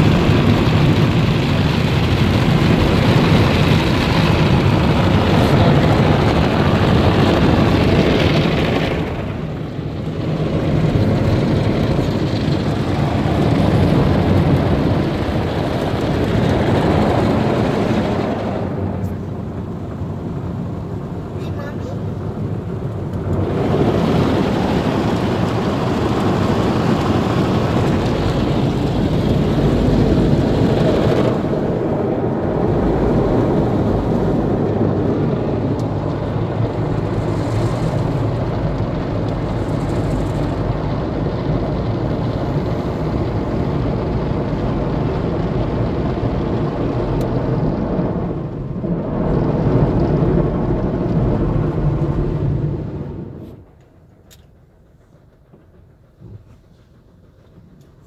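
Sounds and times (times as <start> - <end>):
water spraying on car: 0.0 - 53.7.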